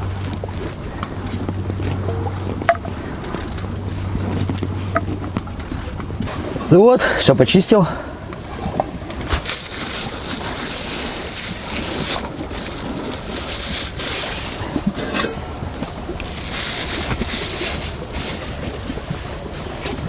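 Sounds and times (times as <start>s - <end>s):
gusting wind: 0.0s - 20.0s.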